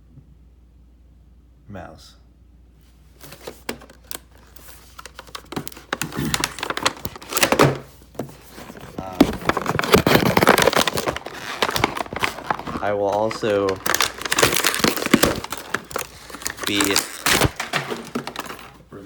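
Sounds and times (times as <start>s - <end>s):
crinkling plastic and cardboard: 3.1s - 19.0s
packaging being opened: 3.2s - 19.0s.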